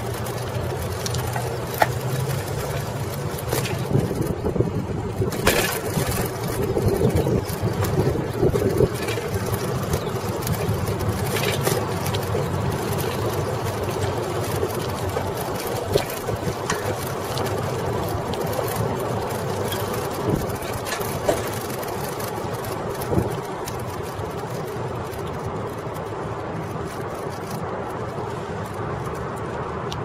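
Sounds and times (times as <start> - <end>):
bicycle rolling over pavement: 0.0 - 30.0.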